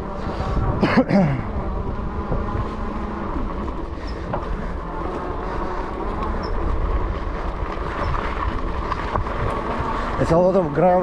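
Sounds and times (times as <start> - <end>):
bike tires rumbling on gravel: 0.0 - 11.0.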